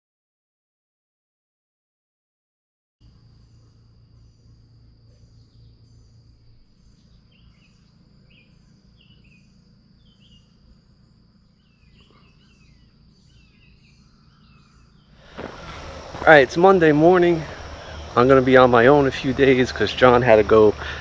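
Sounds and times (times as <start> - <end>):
faint low rumble: 3.0 - 21.0
insect chirps: 3.0 - 21.0
insect trill: 3.0 - 21.0
birds calling: 3.5 - 21.0.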